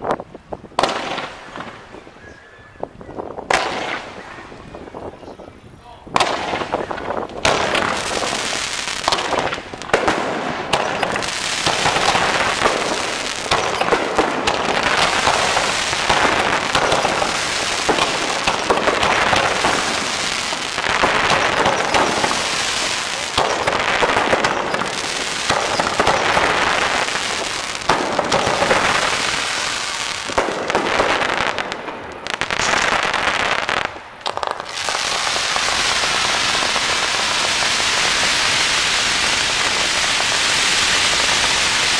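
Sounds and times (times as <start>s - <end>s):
fireworks crackling: 0.0s - 2.3s, 3.2s - 5.2s, 5.8s - 41.9s.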